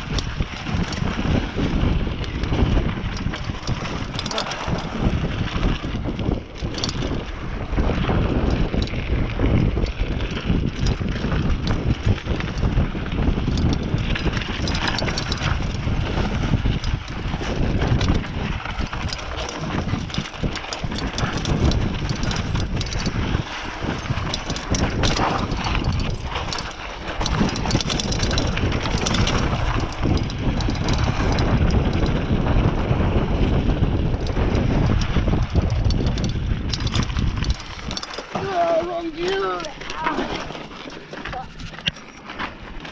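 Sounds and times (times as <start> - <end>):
bike rattling and knocking: 0.0 - 42.9
bike tyres rolling on dirt: 0.0 - 42.9
wind rumble on microphone: 0.0 - 42.9.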